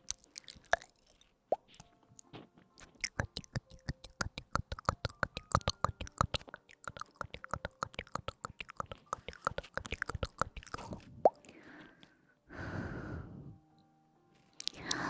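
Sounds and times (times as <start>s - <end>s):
close crackling and clicking: 0.0s - 12.2s, 14.4s - 15.0s.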